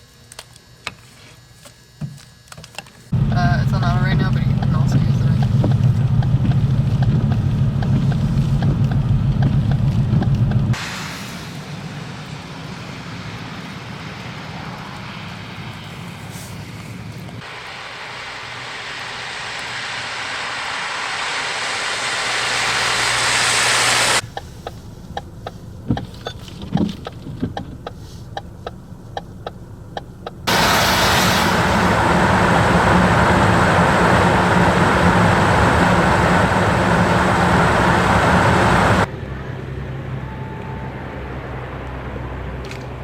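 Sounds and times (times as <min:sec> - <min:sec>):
low engine hum: 0:03.1 - 0:43.0
vehicle driving noise: 0:03.1 - 0:43.0.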